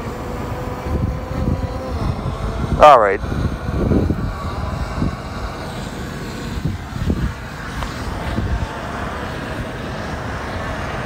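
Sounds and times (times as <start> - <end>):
steady outdoor rush: 0.0 - 11.0
wind buffeting microphone: 0.0 - 11.0.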